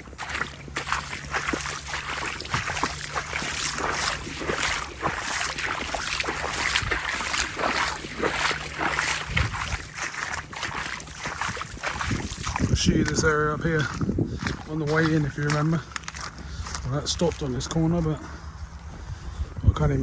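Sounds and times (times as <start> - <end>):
footsteps splashing through water: 0.0 - 19.4
low engine hum: 0.0 - 20.0.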